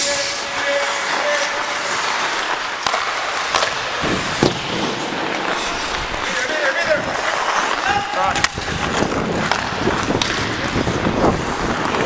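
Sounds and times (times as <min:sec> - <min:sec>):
skate blades scraping on ice: 0:00.0 - 0:12.0.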